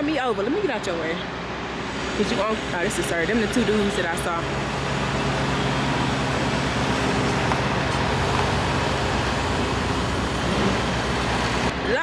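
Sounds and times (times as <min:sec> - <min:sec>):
truck engine idling: 0:00.2 - 0:11.7.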